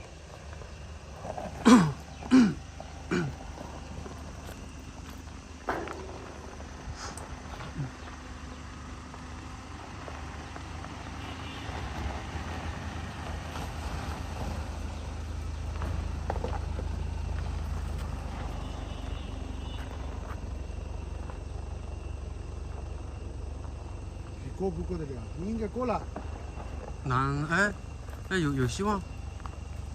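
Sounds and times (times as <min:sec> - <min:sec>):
diesel engine under load: 0:00.0 - 0:29.9.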